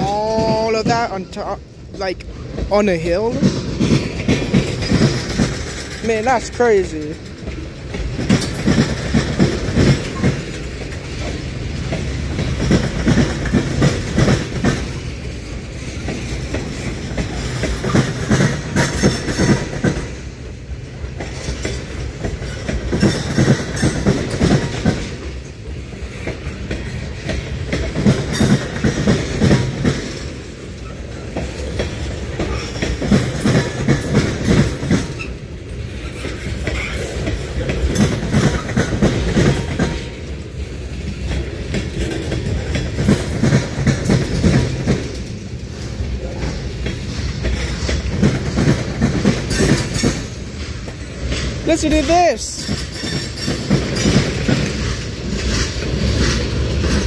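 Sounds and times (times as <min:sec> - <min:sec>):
train rumble: 0:00.0 - 0:57.0
train wheels clacking over rail joints: 0:00.0 - 0:57.0.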